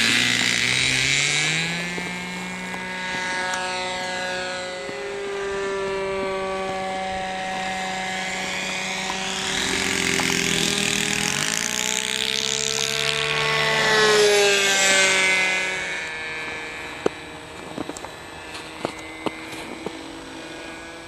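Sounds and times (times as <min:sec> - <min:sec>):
model plane engine drone: 0:00.0 - 0:21.0.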